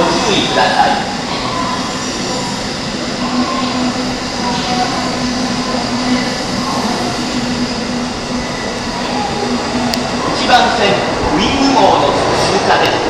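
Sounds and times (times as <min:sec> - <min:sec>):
electric train passing at speed: 0:00.0 - 0:13.0.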